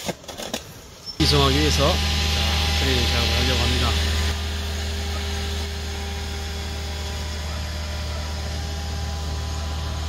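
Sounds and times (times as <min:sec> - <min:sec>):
crane engine running: 0:01.2 - 0:10.0.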